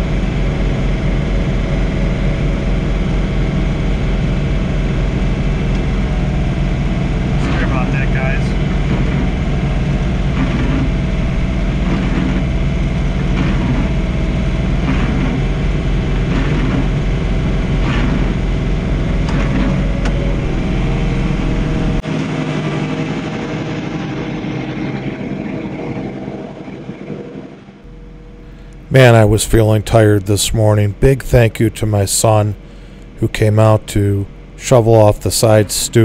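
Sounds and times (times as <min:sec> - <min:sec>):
diesel tractor engine running: 0:00.0 - 0:36.0.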